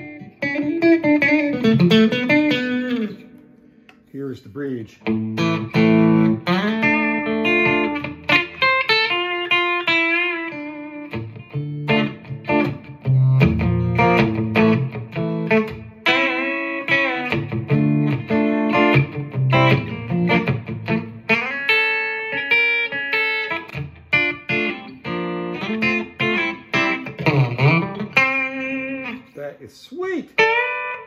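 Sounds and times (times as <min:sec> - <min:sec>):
electric guitar playing: 0:00.0 - 0:04.1, 0:05.0 - 0:29.4, 0:30.2 - 0:31.0.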